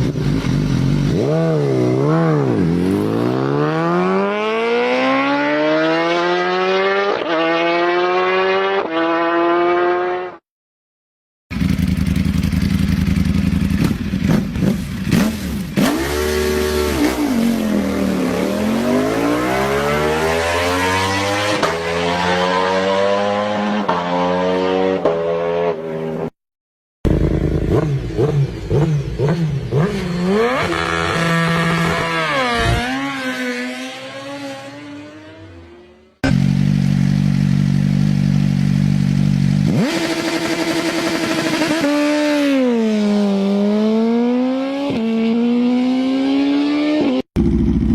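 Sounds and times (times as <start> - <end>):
motorcycle engine revving: 0.0 - 10.4, 11.5 - 26.3, 27.1 - 47.9.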